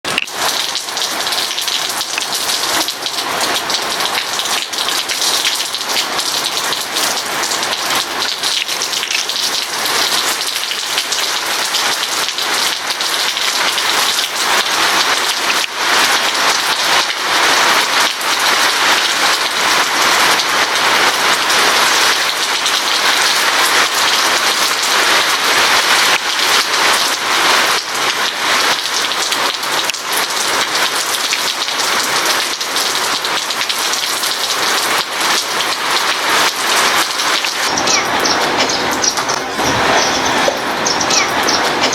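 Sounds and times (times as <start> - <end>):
heavy rain hissing: 0.0 - 41.9
raindrops pattering: 0.0 - 41.9.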